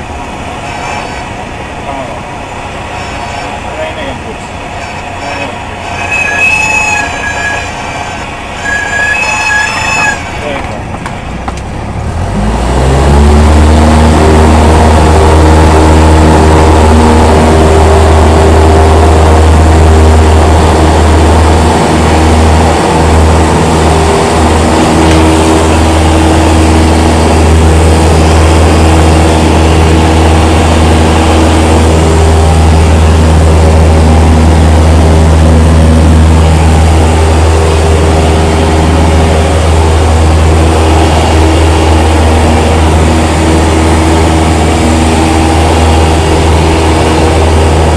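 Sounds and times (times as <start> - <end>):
airplane engine and propeller: 0.0 - 47.9.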